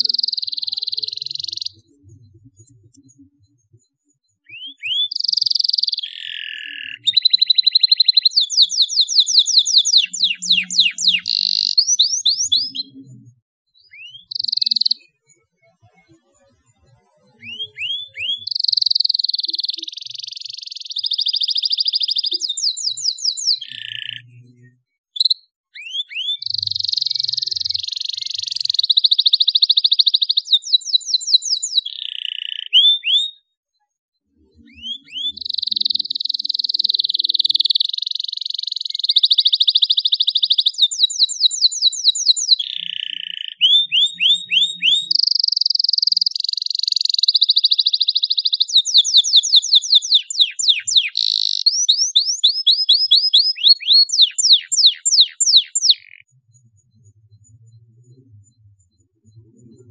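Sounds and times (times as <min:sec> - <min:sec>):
canary singing trills: 0:00.0 - 0:33.6, 0:34.2 - 0:59.9.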